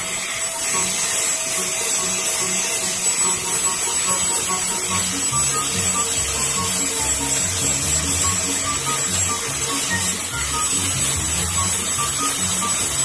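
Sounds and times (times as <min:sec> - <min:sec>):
angle grinder sanding wood: 0:00.0 - 0:13.0
background music: 0:00.6 - 0:13.0.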